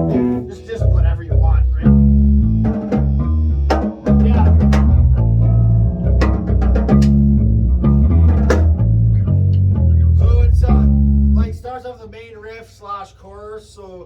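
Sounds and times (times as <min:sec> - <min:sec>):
plucked guitar notes: 0:00.0 - 0:11.6
bass guitar notes: 0:00.0 - 0:12.1.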